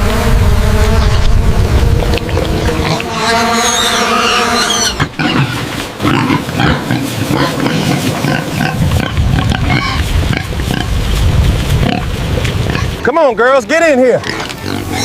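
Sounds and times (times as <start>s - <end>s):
pigs calling: 1.0s - 11.0s, 11.8s - 13.1s, 14.1s - 15.0s.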